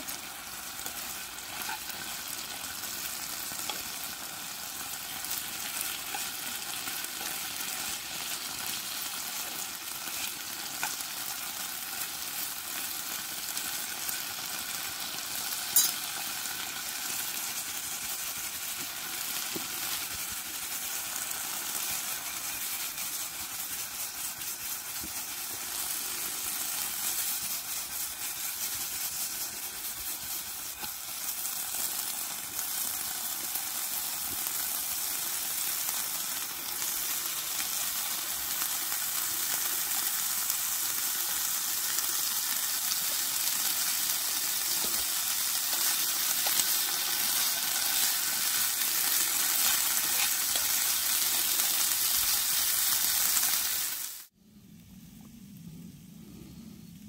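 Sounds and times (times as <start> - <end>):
chicken sizzling in frying pan: 0.0 - 54.3.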